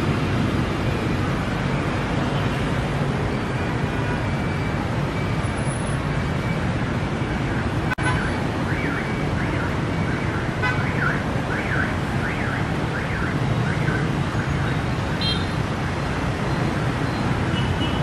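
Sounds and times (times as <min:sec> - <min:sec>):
motorbike and car traffic: 0:00.0 - 0:18.0.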